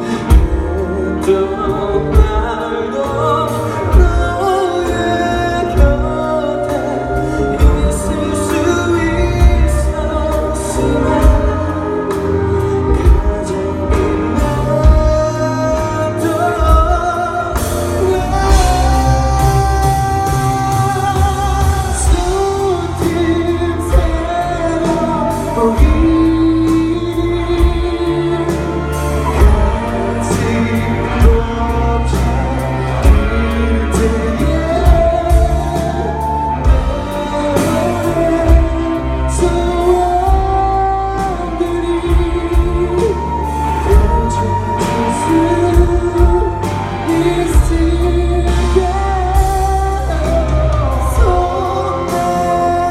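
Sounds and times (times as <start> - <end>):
bass: 0.0 - 52.9
drums: 0.0 - 52.9
person singing: 0.0 - 52.9.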